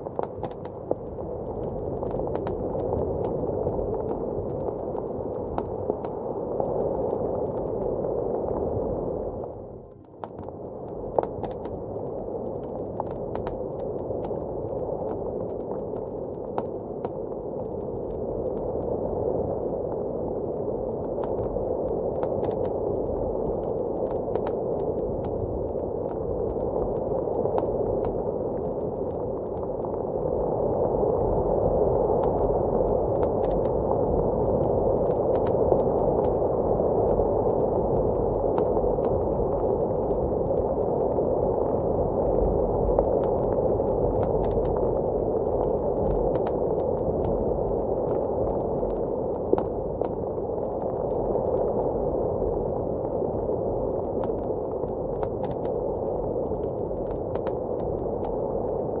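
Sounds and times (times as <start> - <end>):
wood fire popping and crackling: 0.0 - 9.4, 10.0 - 58.8
muffled blizzard wind: 0.0 - 59.0.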